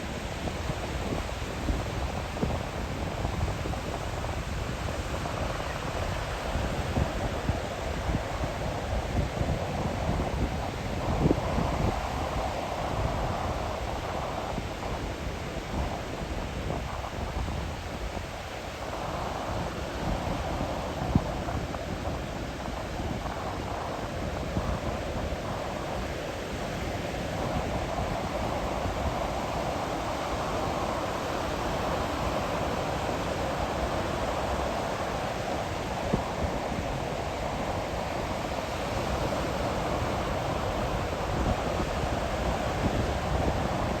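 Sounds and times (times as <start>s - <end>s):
wind gusting on microphone: 0.0s - 44.0s.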